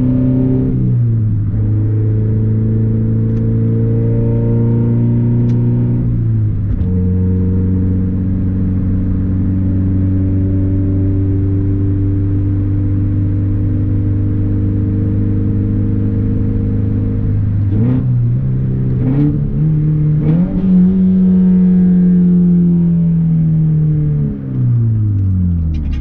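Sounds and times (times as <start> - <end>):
loud car engine exhaust: 0.0 - 26.0.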